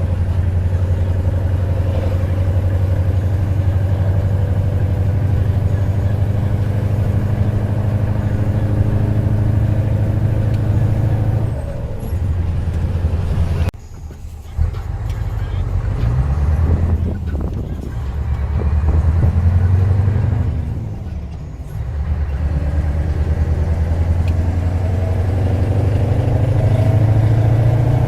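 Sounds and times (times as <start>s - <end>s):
diesel engine deep pulsing exhaust: 0.0s - 28.0s.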